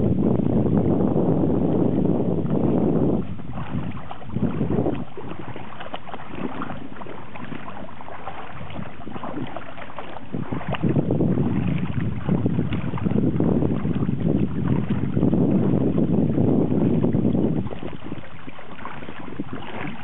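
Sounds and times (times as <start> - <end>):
wind rumble on microphone: 0.0 - 20.0
dog splashing through water: 2.9 - 20.0.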